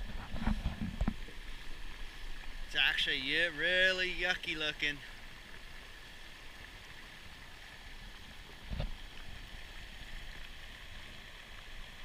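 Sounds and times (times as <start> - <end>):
floodwater rushing: 1.0 - 12.0.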